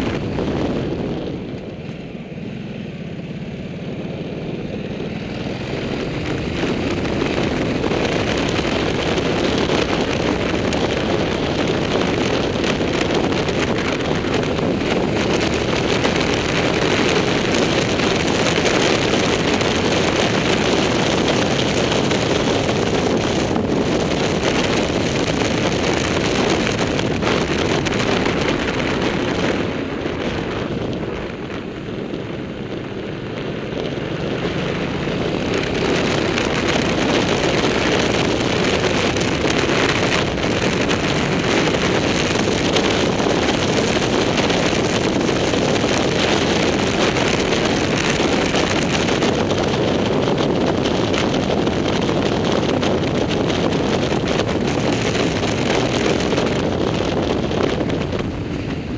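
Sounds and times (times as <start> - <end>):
motorcycle engine running: 0.0 - 58.9
wind rushing over microphone: 0.0 - 58.9.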